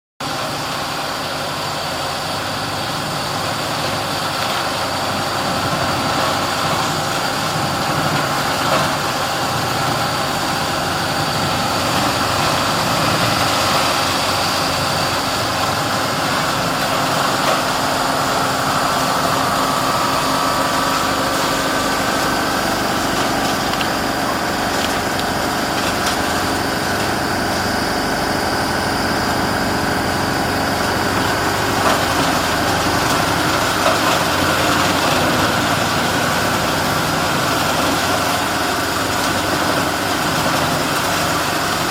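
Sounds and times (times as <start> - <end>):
tractor and woodchipper drone: 0.2 - 41.9.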